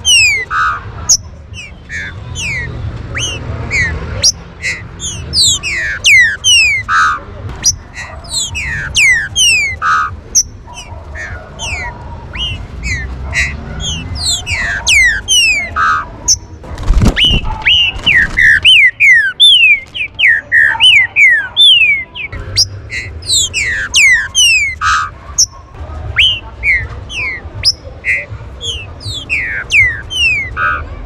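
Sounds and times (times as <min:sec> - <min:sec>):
birds singing whistled notes: 0:00.0 - 0:30.9.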